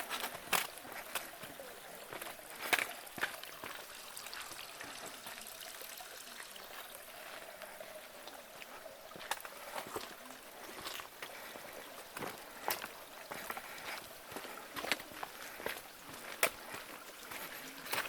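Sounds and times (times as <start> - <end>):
footsteps on a trail: 0.0 - 18.0
mountain stream running: 0.0 - 18.0.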